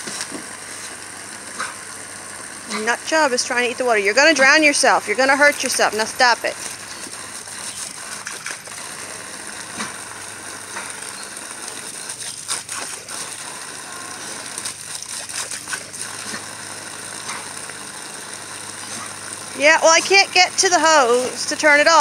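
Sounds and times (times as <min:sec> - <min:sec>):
garden hose water spraying: 0:00.0 - 0:22.0.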